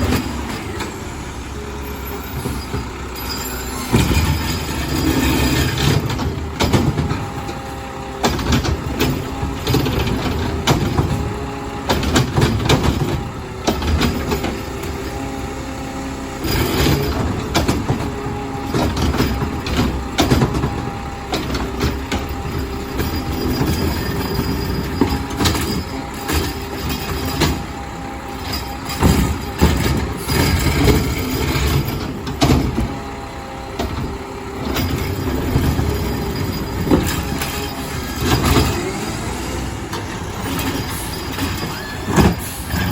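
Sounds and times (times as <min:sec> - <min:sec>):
truck engine whining: 0:00.0 - 0:42.9
clanks and bangs of containers: 0:03.9 - 0:15.2, 0:16.4 - 0:33.1, 0:33.7 - 0:39.0, 0:40.0 - 0:42.9.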